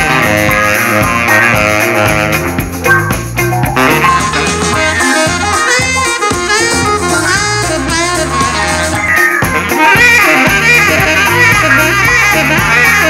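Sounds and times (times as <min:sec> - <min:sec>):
jazz music through a speaker: 0:00.0 - 0:13.0.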